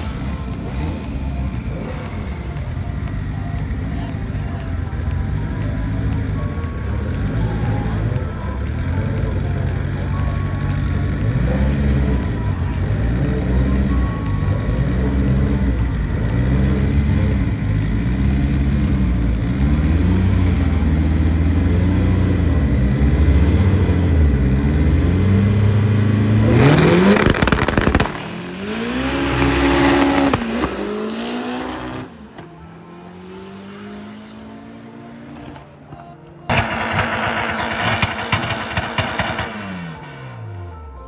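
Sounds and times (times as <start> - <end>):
race car engine revving: 0.0 - 35.9, 36.5 - 40.6.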